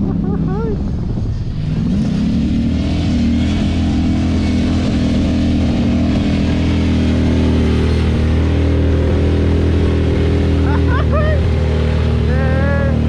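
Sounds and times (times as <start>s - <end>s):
vehicle engine revving high: 0.0s - 13.0s.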